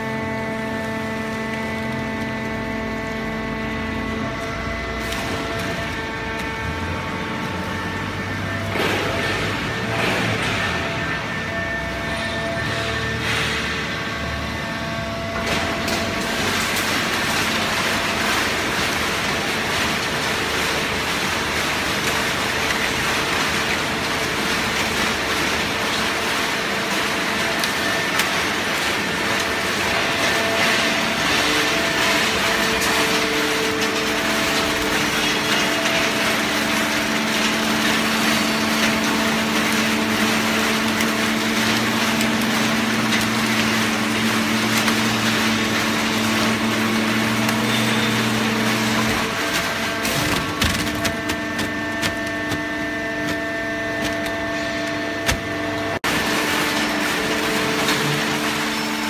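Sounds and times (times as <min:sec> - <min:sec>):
hydraulic baling press drone: 0:00.0 - 0:59.0.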